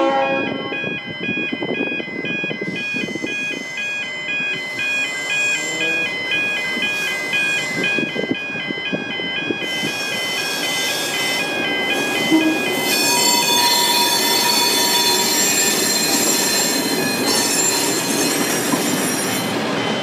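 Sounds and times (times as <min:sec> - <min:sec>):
level crossing warning bells: 0:00.0 - 0:20.0.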